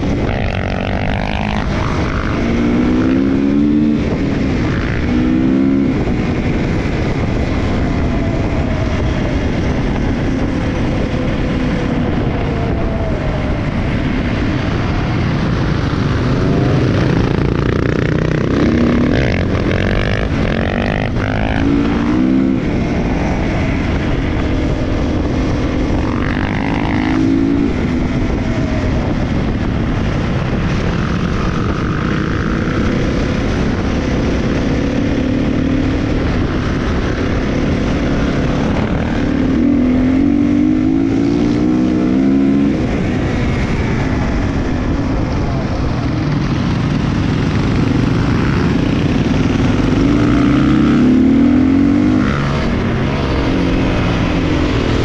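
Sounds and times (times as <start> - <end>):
dirt bike engines revving: 0.0 - 55.0
steady rushing noise: 0.0 - 55.0.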